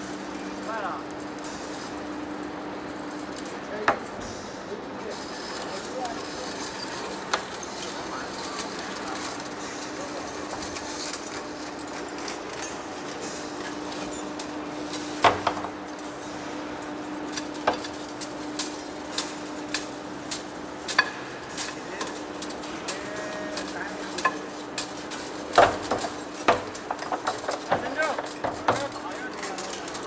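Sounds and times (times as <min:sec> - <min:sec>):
metallic clinks and clatters: 0:05.6 - 0:30.0.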